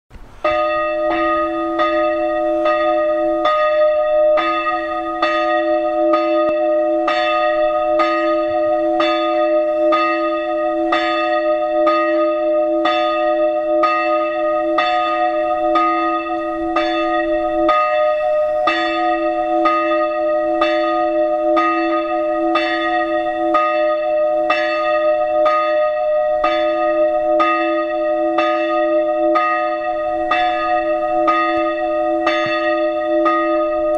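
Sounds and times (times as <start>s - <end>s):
church bells pealing: 0.4s - 33.9s.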